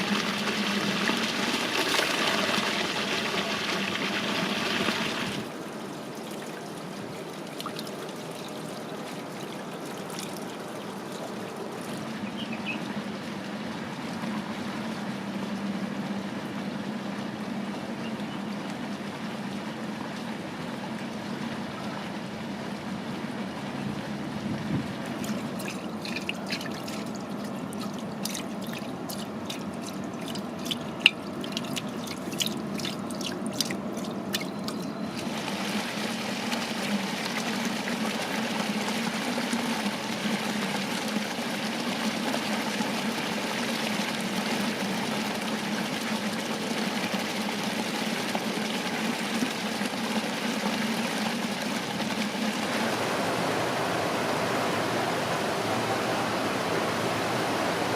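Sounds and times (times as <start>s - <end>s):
fountain water splashing: 0.0s - 57.9s.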